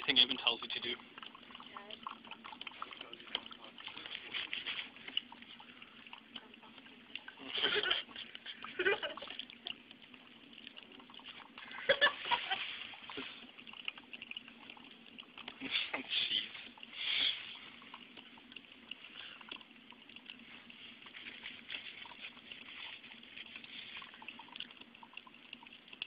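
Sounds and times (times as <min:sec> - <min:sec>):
drip coffee maker gurgling: 0:00.0 - 0:26.0.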